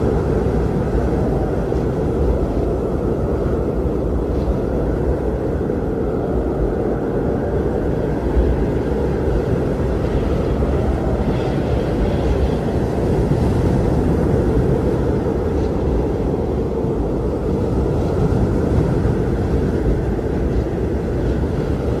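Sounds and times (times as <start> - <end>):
strong wind blowing: 0.0 - 22.0.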